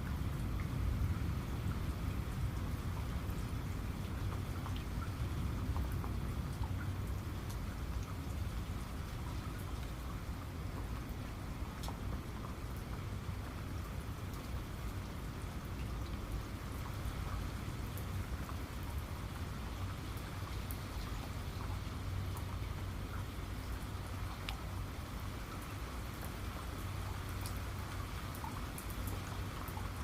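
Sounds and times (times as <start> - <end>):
raindrops ticking: 0.0 - 30.0
steady rain hiss: 0.0 - 30.0.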